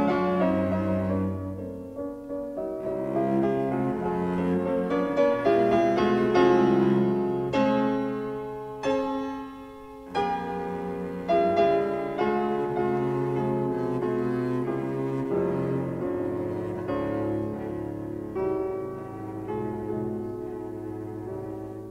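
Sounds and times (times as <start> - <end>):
piano: 0.0 - 21.9
bowed strings holding notes: 2.6 - 21.9.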